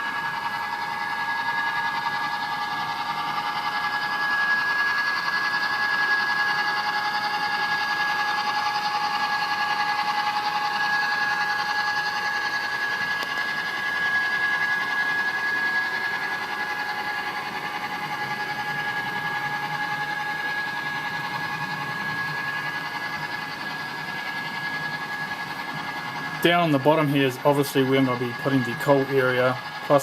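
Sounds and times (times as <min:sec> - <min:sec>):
model train motor whine: 0:00.0 - 0:30.0.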